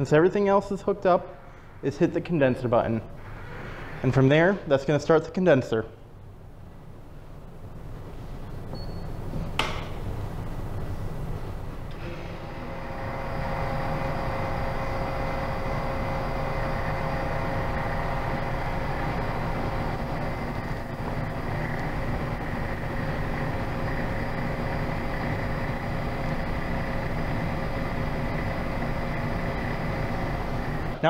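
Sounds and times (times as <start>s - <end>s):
refrigeration system humming: 0.0s - 31.0s.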